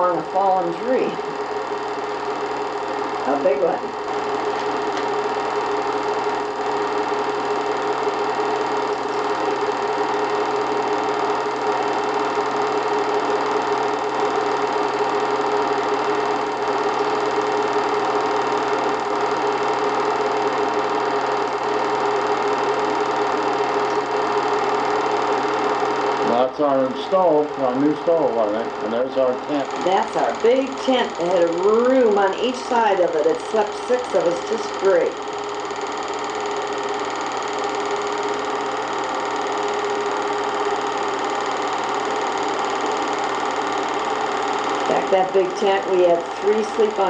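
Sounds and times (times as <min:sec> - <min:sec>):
film projector whirring and clattering: 0:00.0 - 0:47.0.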